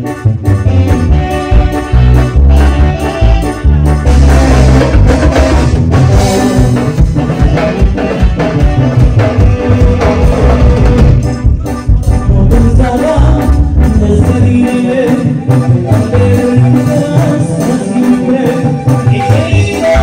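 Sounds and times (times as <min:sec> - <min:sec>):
live latin dance band music: 0:00.0 - 0:20.0.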